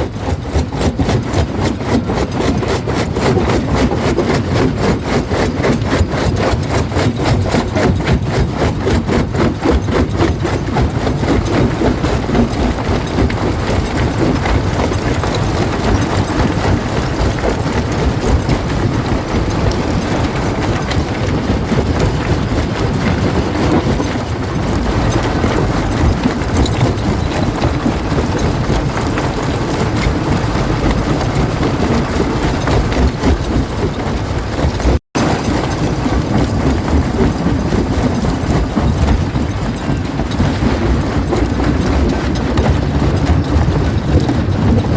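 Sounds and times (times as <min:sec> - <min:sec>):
rock crusher grinding rumble: 0:00.0 - 0:44.9.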